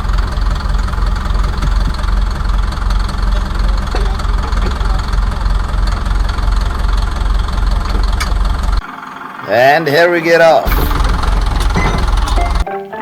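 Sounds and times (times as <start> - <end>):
bulldozer diesel engine running: 0.0 - 12.7.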